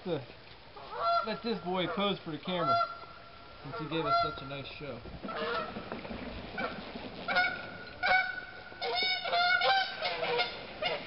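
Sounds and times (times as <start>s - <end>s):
creek water rushing: 0.1s - 11.0s
geese honking: 0.8s - 4.6s, 5.2s - 11.0s.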